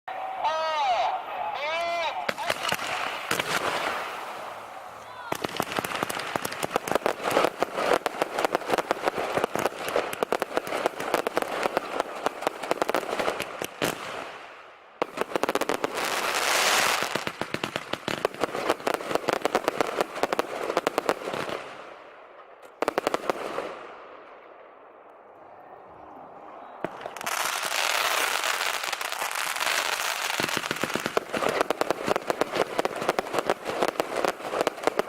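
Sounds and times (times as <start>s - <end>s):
fireworks crackling: 1.0s - 24.0s, 26.8s - 35.0s.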